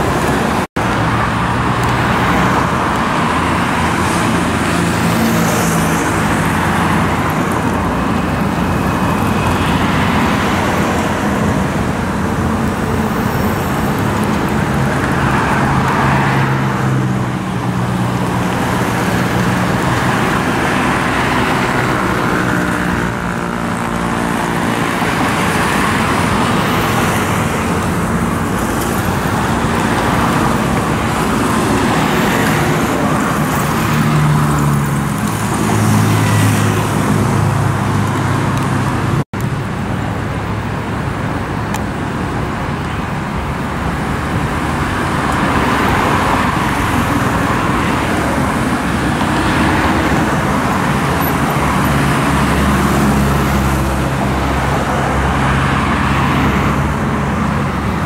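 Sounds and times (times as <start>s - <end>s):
road noise: 0.0s - 58.0s
vehicles passing by: 0.0s - 58.0s.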